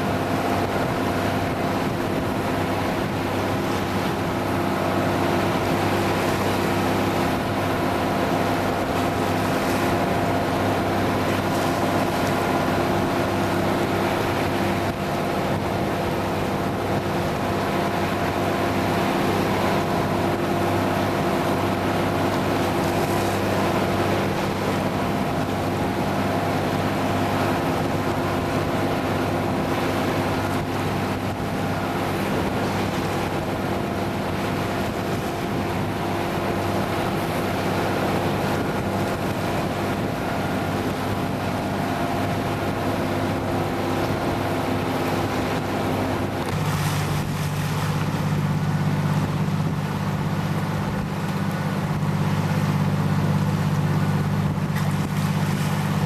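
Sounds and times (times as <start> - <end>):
boat engine running: 0.0 - 56.0
water rushing past: 0.0 - 56.0
wind: 0.0 - 56.0.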